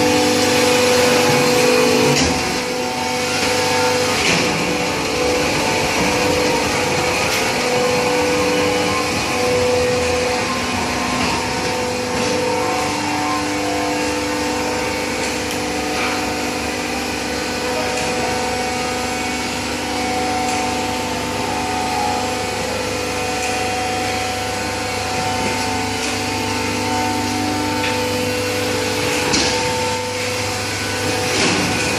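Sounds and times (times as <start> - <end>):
hydraulic baler drone: 0.0 - 31.9
whining pump and motor tones: 0.0 - 31.9.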